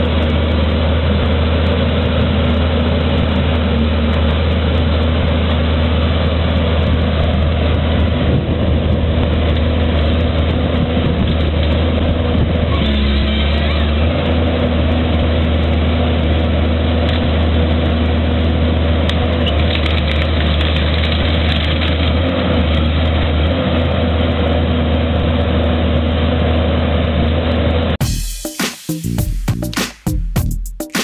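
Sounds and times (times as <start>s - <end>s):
large engine humming: 0.0s - 28.1s.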